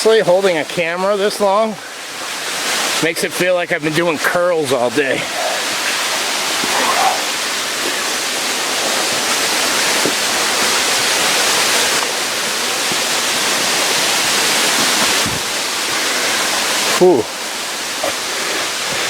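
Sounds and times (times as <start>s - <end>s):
waterfall rushing over rocks: 0.0s - 19.0s.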